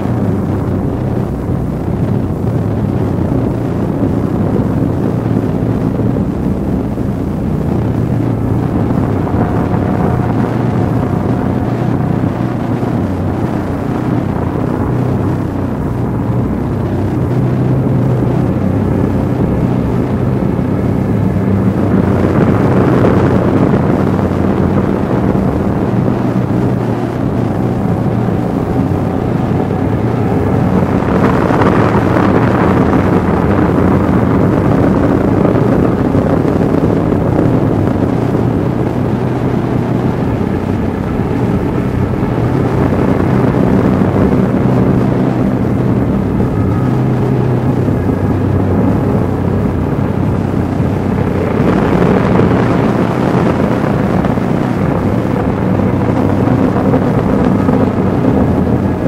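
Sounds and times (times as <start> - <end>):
dark ambient drone: 0.0 - 59.0.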